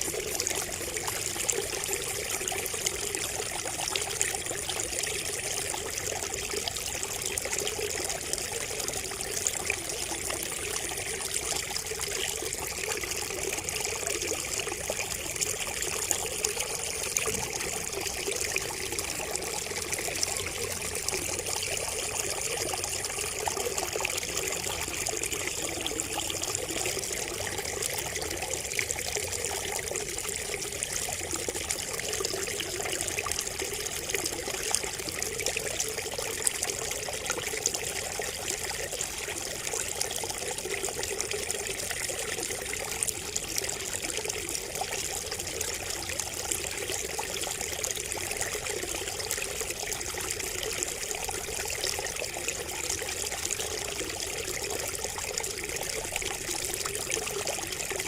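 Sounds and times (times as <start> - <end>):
water trickling from a bamboo spout: 0.0 - 58.0.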